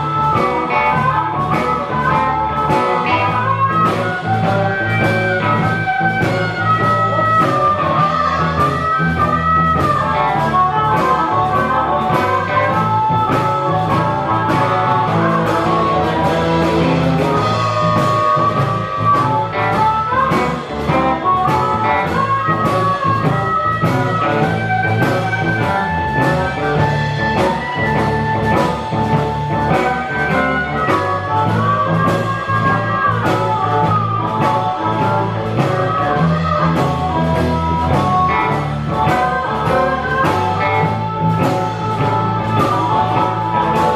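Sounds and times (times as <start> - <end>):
bass: 0.0 - 43.9
bending electric guitar lines: 0.0 - 43.9
steady drum beat: 0.0 - 43.9.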